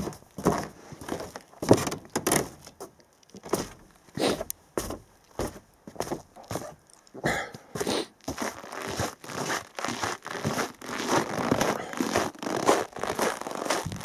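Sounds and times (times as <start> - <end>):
footsteps crunching on snow: 0.0 - 1.9, 2.7 - 14.0.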